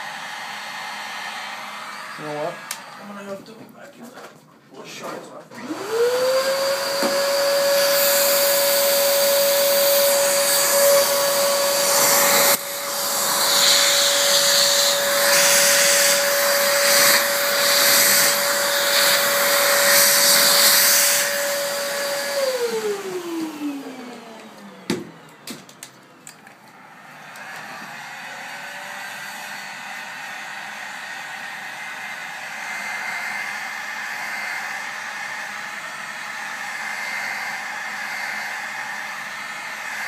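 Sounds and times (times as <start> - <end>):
vacuum motor winding down: 0.0 - 3.4, 5.5 - 40.0
vacuum cleaner running: 0.0 - 3.8, 5.5 - 40.0.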